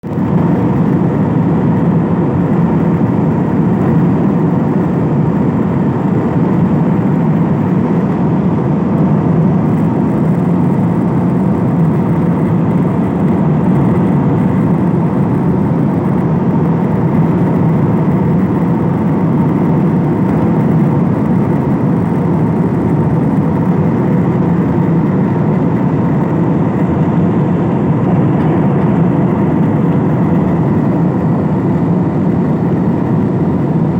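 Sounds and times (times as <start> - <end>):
airliner cabin engine rumble: 0.0 - 33.9.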